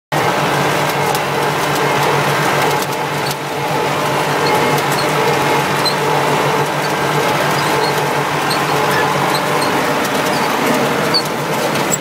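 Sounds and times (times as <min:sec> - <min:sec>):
tractor diesel engine under load: 0:00.1 - 0:12.0
hay baler mechanical clatter: 0:00.2 - 0:12.0.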